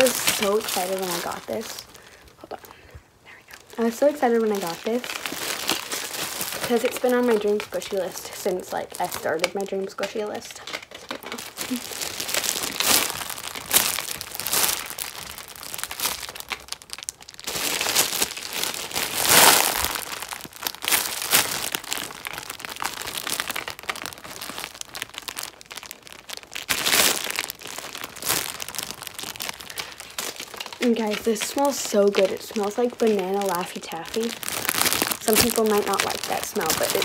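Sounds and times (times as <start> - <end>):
plastic bag crinkling: 0.0 - 37.0.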